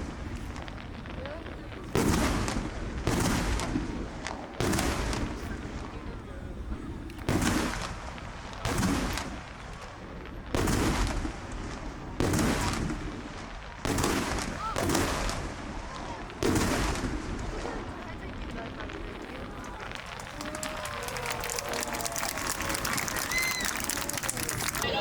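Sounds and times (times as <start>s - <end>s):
firework shells booming: 0.0s - 25.0s.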